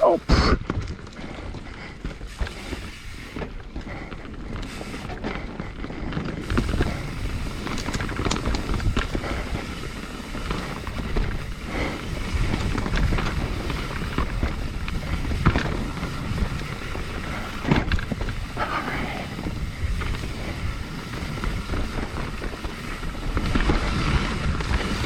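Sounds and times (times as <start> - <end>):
bike rattling and clacking: 0.0 - 25.0
tyres rumbling on dirt and rock: 0.0 - 25.0
wind buffeting microphone: 0.2 - 25.0.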